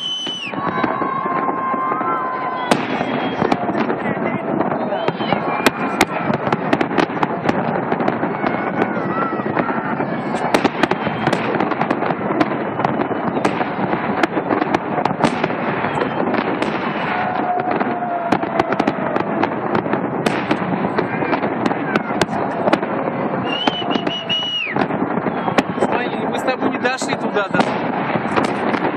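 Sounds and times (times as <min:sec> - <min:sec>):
fireworks bangs and crackles: 0:00.0 - 0:28.9.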